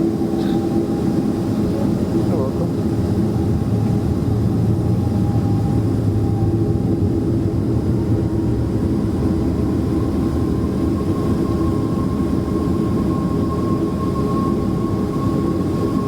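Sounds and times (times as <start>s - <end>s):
faint engine whine: 0.0s - 16.0s
jet engine cabin rumble: 0.0s - 16.0s.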